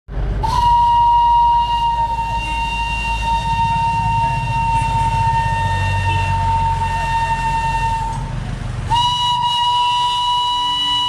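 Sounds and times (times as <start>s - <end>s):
low engine rumble: 0.1s - 11.0s
steam locomotive whistle: 0.4s - 11.0s.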